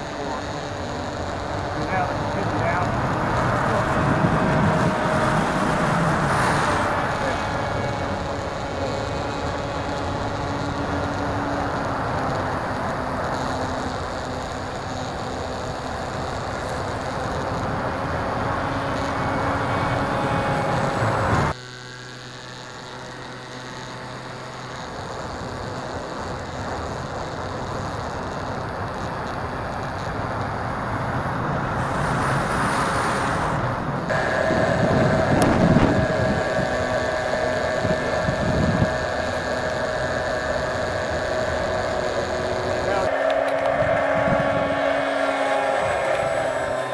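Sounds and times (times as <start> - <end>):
model plane motor whining: 0.0 - 46.9.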